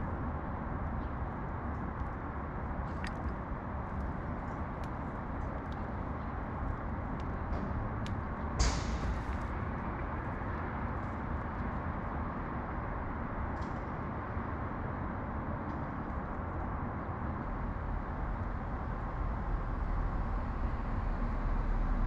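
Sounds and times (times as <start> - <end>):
low hum of city traffic: 0.0 - 22.0.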